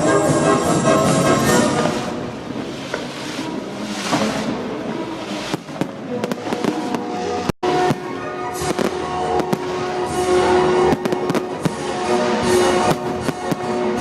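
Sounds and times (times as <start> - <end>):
fireworks cracking and hissing: 0.0 - 14.0
music: 0.0 - 14.0.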